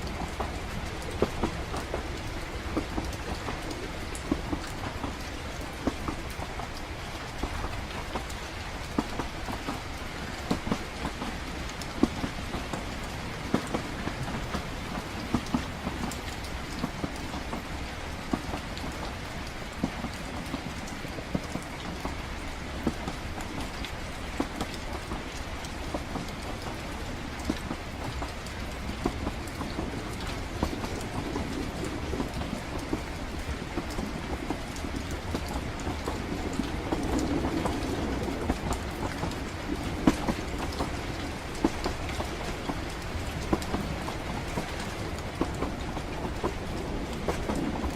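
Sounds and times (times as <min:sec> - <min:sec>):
rain hissing: 0:00.0 - 0:47.9
raindrop taps: 0:00.0 - 0:47.9
train rumble: 0:00.0 - 0:47.9.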